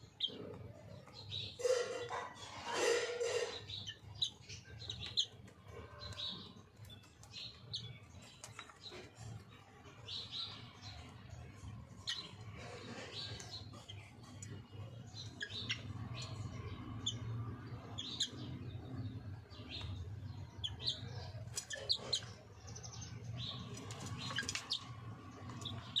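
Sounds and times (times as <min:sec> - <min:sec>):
chicken chirping: 0:00.0 - 0:26.0.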